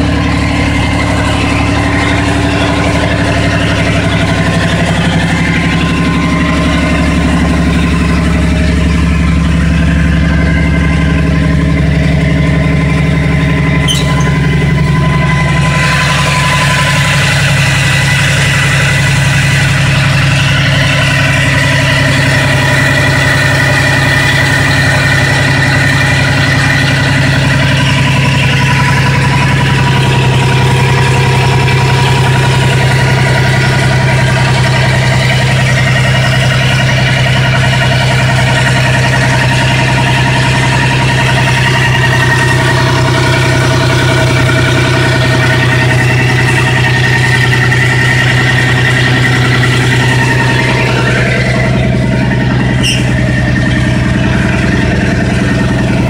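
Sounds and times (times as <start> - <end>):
pickup engine idling loudly: 0.0 - 56.0.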